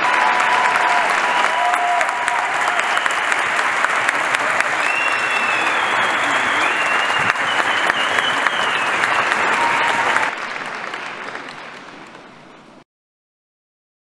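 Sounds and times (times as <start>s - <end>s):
concert audience applauding: 0.0s - 12.8s.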